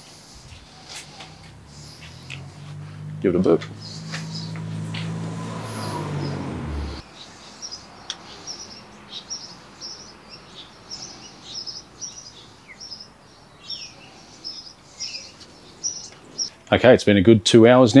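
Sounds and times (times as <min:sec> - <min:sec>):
small birds chirping: 0:00.0 - 0:16.7.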